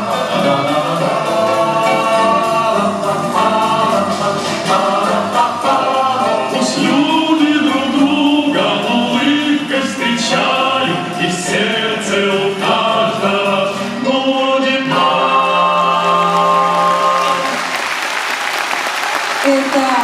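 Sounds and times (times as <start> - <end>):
vocal ensemble singing: 0.0 - 18.0.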